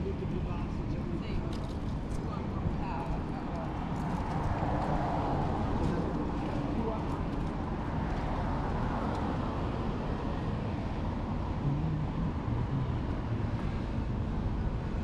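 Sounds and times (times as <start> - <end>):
street ambience rumble: 0.0 - 15.0.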